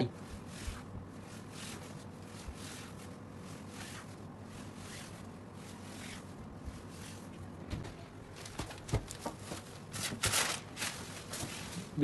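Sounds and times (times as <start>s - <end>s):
fabric rustling and swishing: 0.0s - 7.5s, 8.4s - 12.0s.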